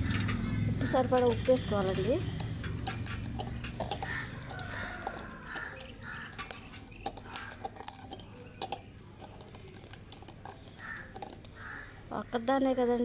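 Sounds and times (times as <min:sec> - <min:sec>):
fingers clicking against metal pot: 0:00.0 - 0:11.6
wet squishes of mashing food: 0:00.0 - 0:11.9.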